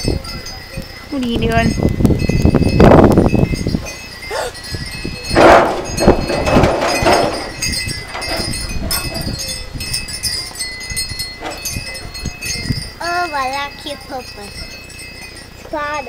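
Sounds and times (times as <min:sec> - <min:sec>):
chimes ringing: 0:00.0 - 0:16.0.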